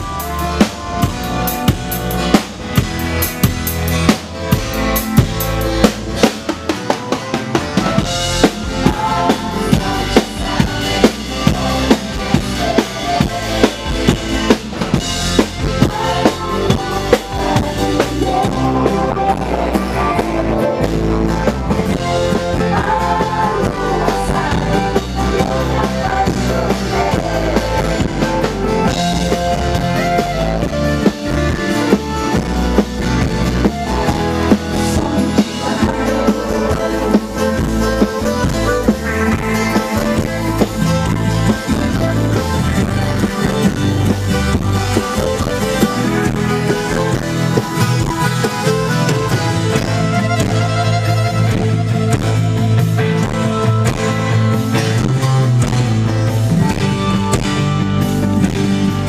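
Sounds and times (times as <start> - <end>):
accordion: 0.0 - 59.0
drum kit steady beat: 0.0 - 59.0
guitar: 0.0 - 59.0
keyboard: 0.0 - 59.0.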